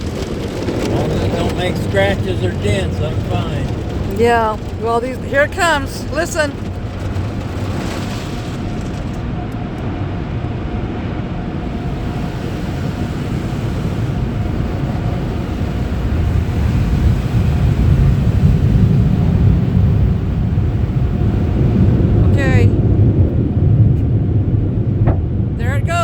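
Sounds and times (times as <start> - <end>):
car wash machinery rumbling: 0.0 - 26.0.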